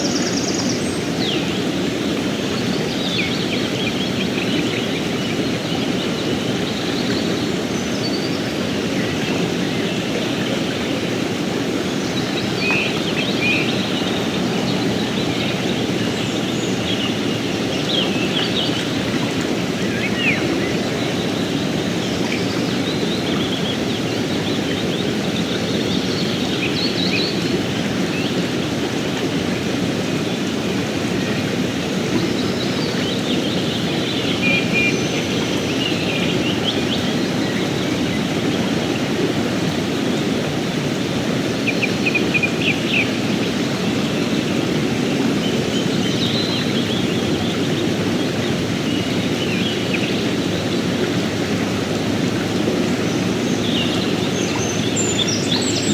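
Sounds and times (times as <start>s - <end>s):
river rushing over rocks: 0.0s - 55.9s.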